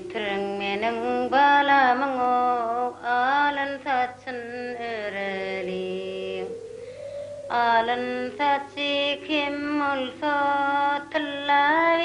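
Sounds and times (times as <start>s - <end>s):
person singing ornamented melody: 0.0s - 12.0s.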